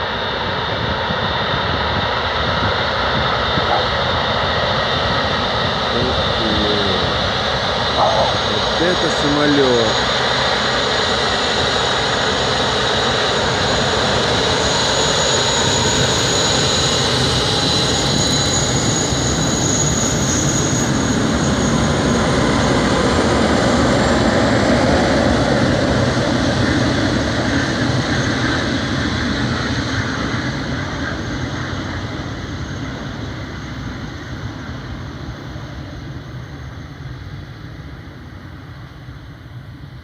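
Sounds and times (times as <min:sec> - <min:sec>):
jet engines roaring with whine: 0:00.0 - 0:40.0.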